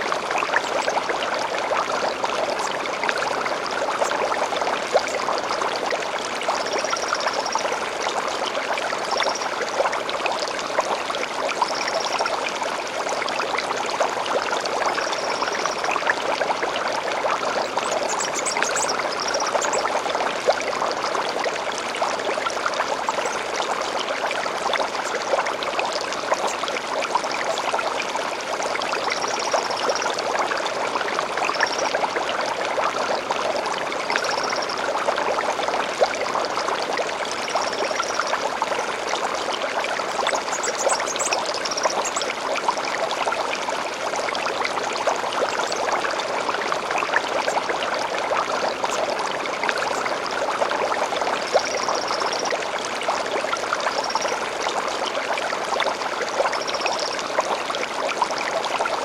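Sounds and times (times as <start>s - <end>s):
stream babbling: 0.0s - 59.0s.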